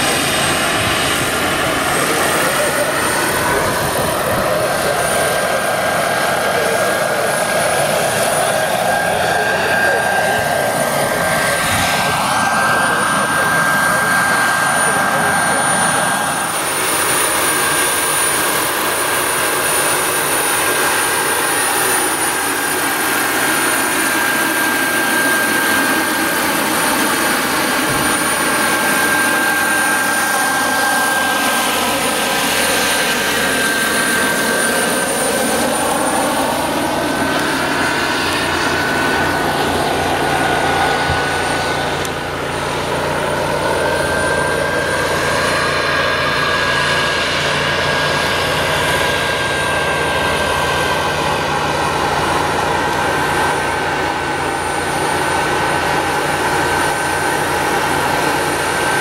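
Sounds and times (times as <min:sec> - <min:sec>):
model helicopter rotors whining: 0:00.0 - 0:59.0.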